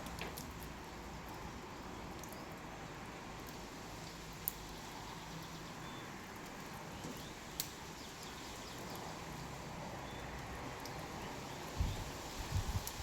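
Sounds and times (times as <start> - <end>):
fire popping: 0.0 - 2.6, 3.4 - 4.8, 6.3 - 13.0
wood fire hissing and crackling: 0.0 - 13.0.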